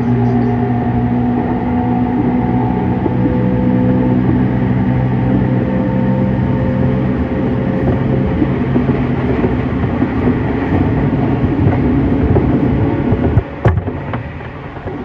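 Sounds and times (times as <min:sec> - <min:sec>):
train interior hum: 0:00.0 - 0:15.0
wheel-on-rail rumble and clatter: 0:00.0 - 0:15.0.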